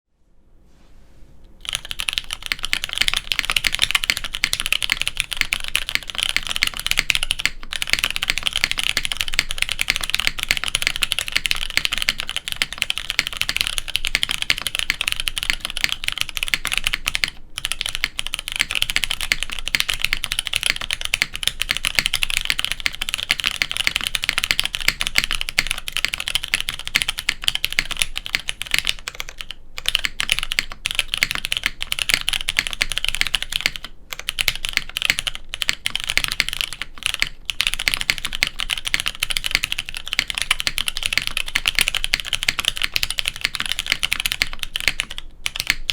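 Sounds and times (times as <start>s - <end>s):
mechanical keyboard typing: 1.6s - 45.9s.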